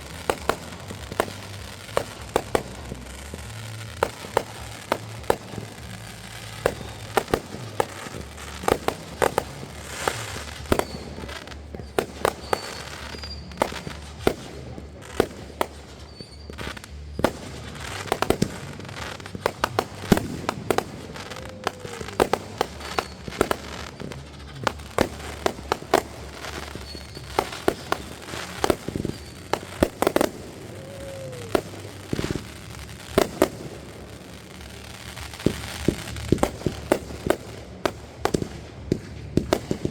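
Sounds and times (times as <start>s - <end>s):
fireworks bangs and crackles: 0.0s - 39.9s
fireworks whistling: 0.0s - 39.9s.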